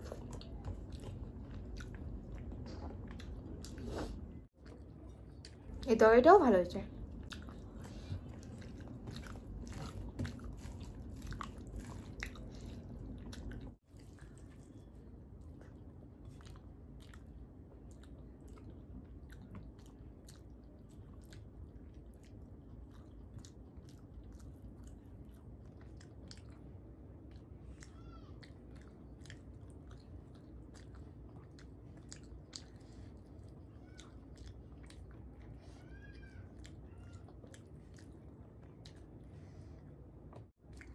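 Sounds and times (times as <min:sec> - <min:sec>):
person chewing food: 0:00.0 - 0:05.8, 0:07.0 - 0:40.9.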